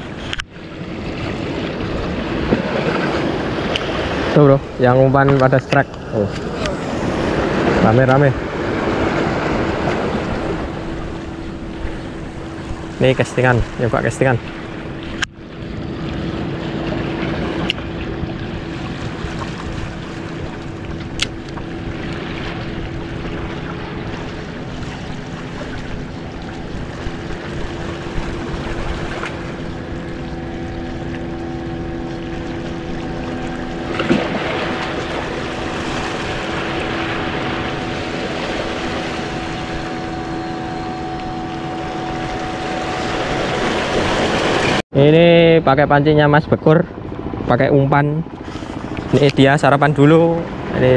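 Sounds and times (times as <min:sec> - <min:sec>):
boat engine humming: 0:00.0 - 0:50.9
water noise: 0:00.0 - 0:50.9
wind: 0:00.0 - 0:50.9.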